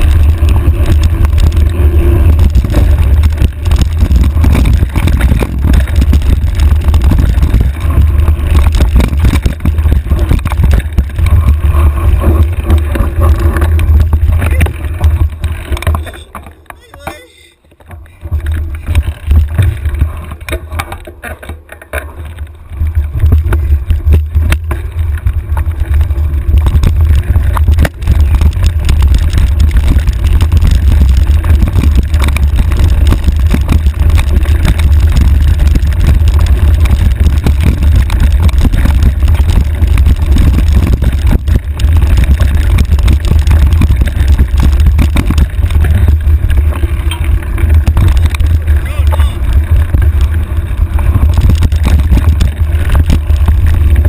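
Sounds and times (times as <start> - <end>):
wind rumble on microphone: 0.0 - 16.4, 18.0 - 21.0, 22.2 - 54.0
bike rattling over rocks: 0.0 - 54.0.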